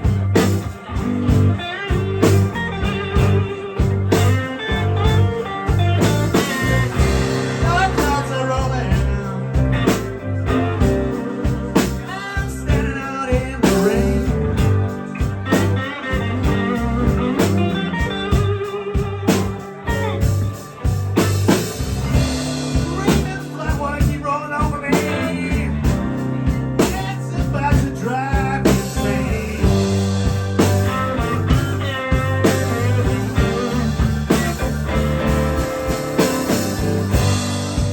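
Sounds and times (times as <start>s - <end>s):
electric guitar lead: 0.0s - 37.9s
live blues band: 0.0s - 37.9s.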